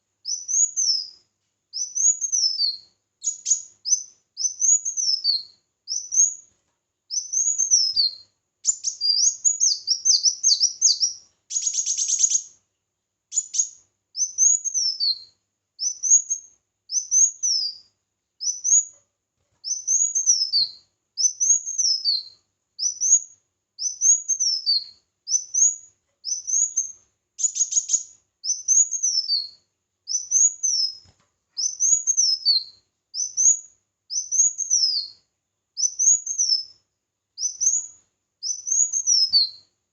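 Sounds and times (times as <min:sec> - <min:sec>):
songbird chirping: 0:00.0 - 0:39.8.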